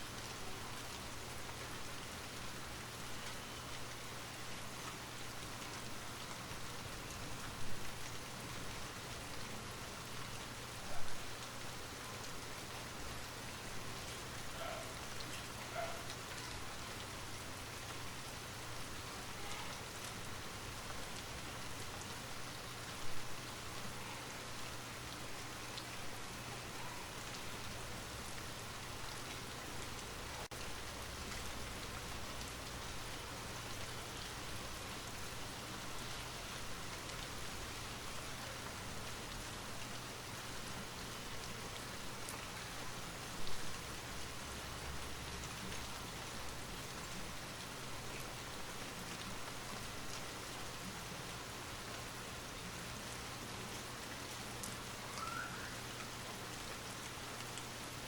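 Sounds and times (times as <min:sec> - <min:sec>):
light rain patter: 0:00.0 - 0:58.0.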